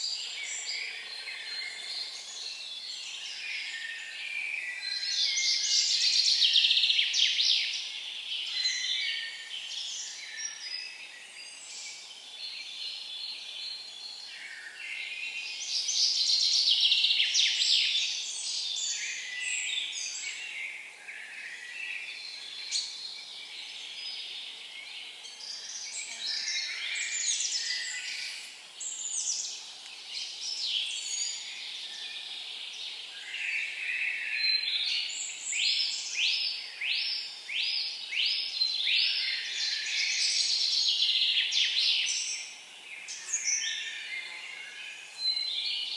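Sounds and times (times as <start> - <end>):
songbirds singing: 0.0 - 45.9.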